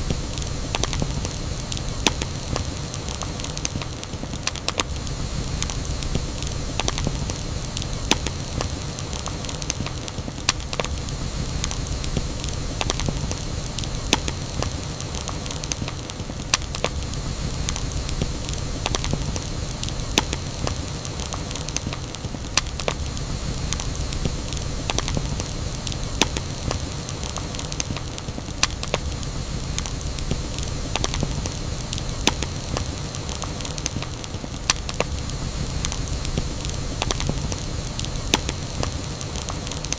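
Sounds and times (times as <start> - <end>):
campfire rumbling and hissing: 0.0 - 39.9
wood crackling and popping: 0.0 - 39.9.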